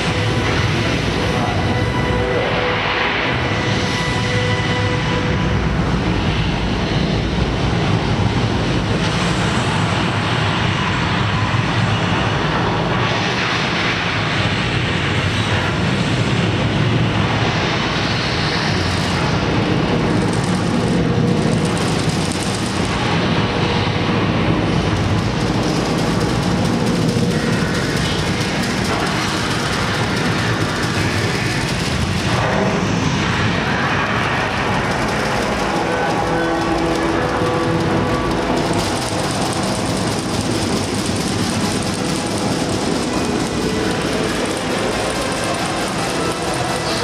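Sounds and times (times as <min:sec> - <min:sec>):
rocket launch roar over speakers: 0:00.0 - 0:47.0.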